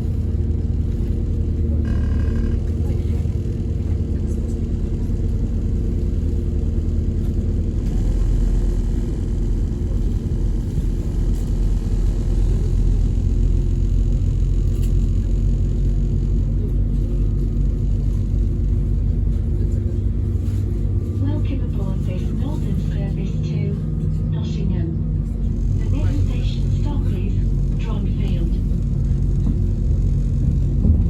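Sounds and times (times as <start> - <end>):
vehicle engine rumble: 0.0 - 31.0.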